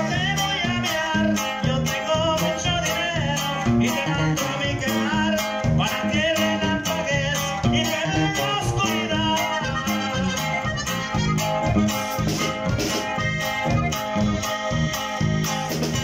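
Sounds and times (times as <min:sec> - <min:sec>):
accordion: 0:00.0 - 0:16.0
drums: 0:00.0 - 0:16.0
electric guitar: 0:00.0 - 0:16.0
live band playing: 0:00.0 - 0:16.0.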